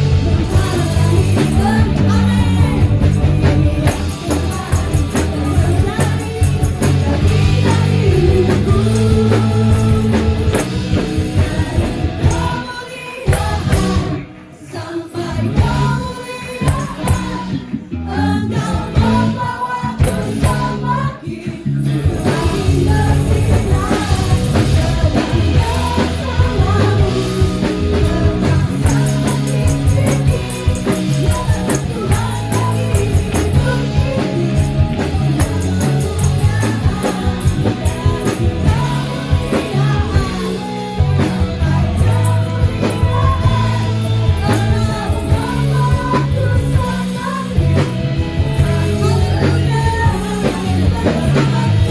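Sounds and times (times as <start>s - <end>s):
worship song with band: 0.0s - 51.9s.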